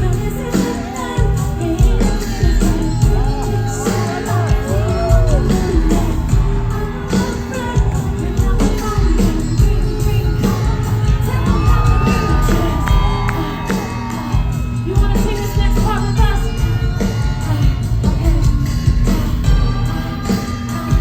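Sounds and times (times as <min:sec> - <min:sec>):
live pop band playing: 0:00.0 - 0:21.0
person singing: 0:00.0 - 0:21.0.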